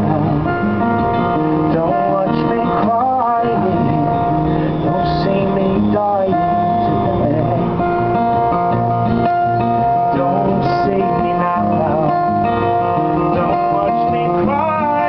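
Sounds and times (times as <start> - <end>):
man singing: 0.0 - 1.0, 1.6 - 8.0, 9.9 - 15.0
acoustic guitar strumming: 0.0 - 15.0.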